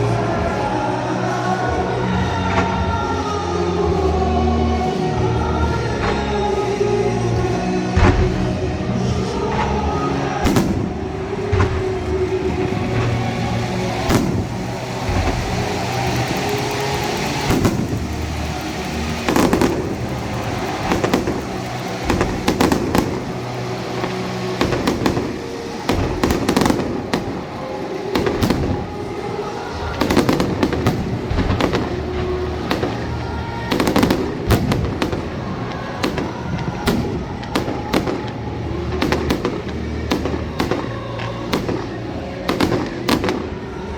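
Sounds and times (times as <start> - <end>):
fireworks bursting: 0.0 - 43.9
music playing: 0.0 - 43.9.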